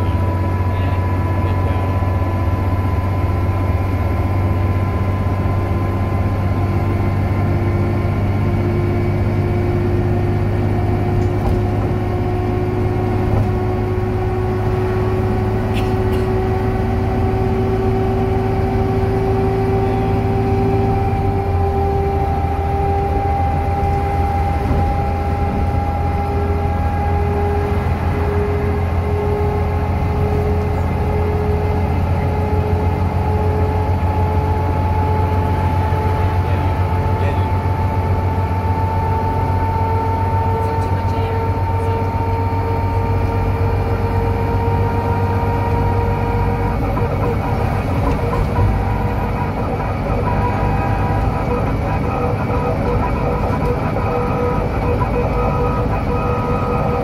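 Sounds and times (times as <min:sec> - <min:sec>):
bus axle whine: 0:00.0 - 0:57.0
bus engine drone: 0:00.0 - 0:57.0.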